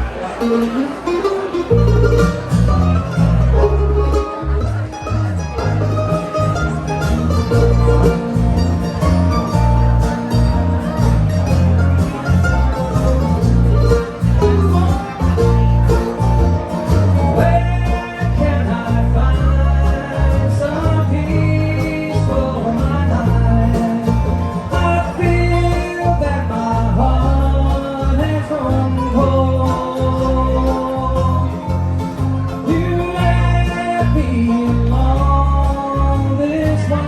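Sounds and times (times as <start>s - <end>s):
bluegrass band playing: 0.0s - 37.0s.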